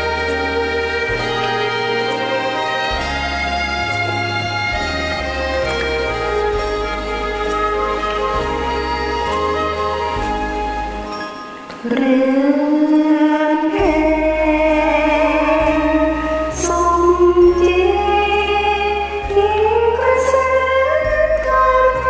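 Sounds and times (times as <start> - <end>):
instrumental karaoke backing track: 0.0 - 22.0.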